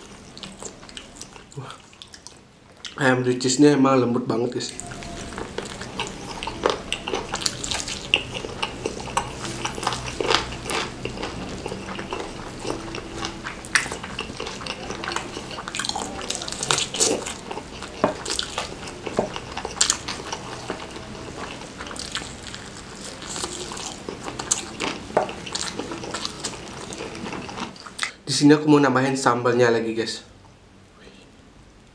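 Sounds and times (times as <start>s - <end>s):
person chewing with wet smacks: 0.0s - 3.0s, 4.7s - 28.2s.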